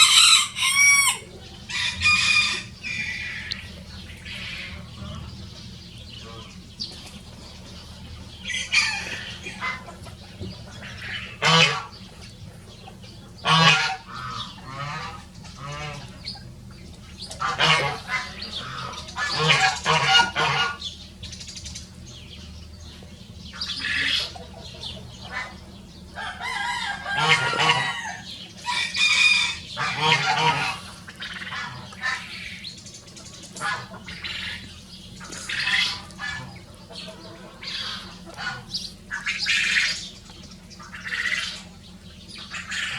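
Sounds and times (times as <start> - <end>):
roosters crowing: 0.0 - 6.8, 8.0 - 12.1, 12.9 - 16.7, 17.4 - 21.2, 23.5 - 32.9, 33.6 - 42.9.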